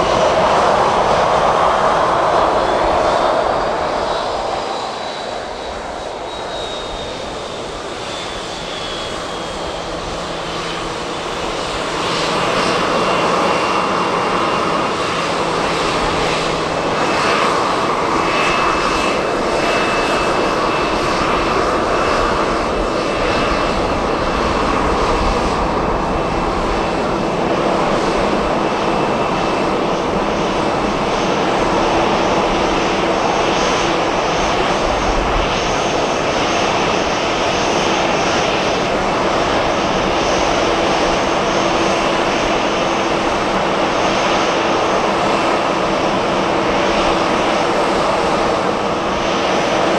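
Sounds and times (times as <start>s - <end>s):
jet engines rushing with whine: 0.0s - 49.9s.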